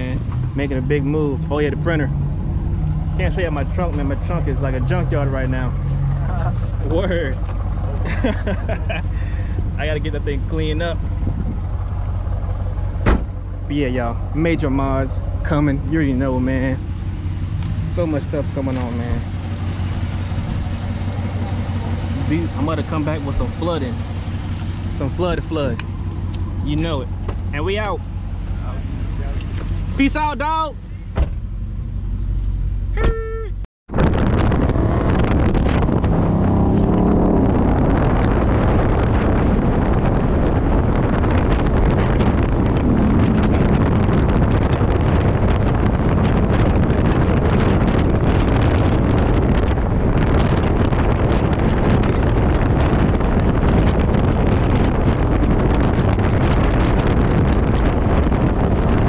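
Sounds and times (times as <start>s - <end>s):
wind rush: 0.0s - 31.7s, 33.9s - 59.0s
road and engine noise: 0.0s - 59.0s.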